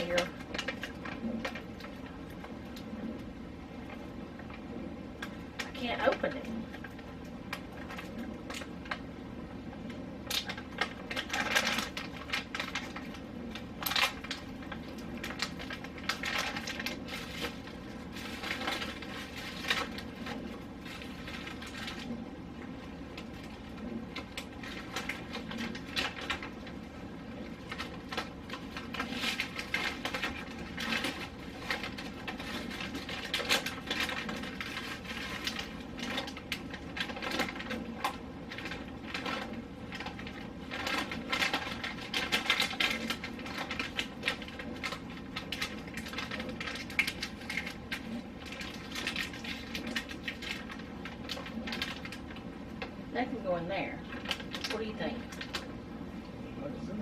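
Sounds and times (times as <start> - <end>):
refrigerator hum: 0.0 - 57.0.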